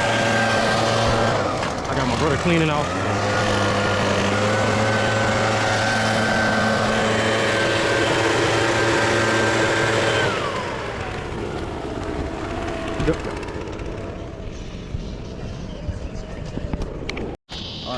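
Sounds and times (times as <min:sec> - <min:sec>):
small engine revving down: 0:00.0 - 0:14.6.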